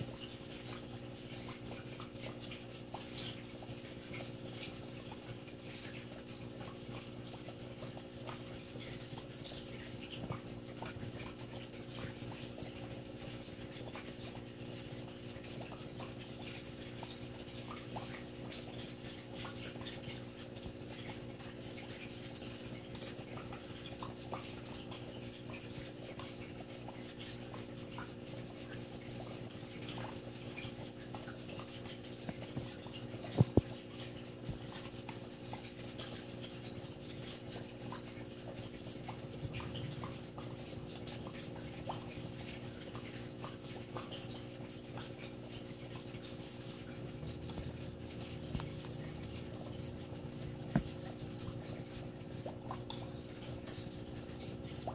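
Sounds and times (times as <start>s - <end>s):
aquarium equipment humming: 0.0s - 54.9s.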